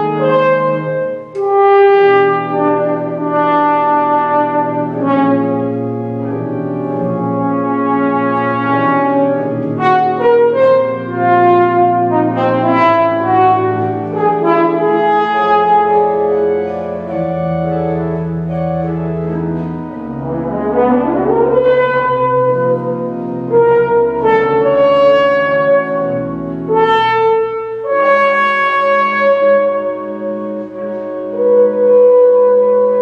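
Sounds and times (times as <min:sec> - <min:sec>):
french horn sustained notes: 0:00.0 - 0:33.0
pipe organ chords: 0:00.0 - 0:33.0.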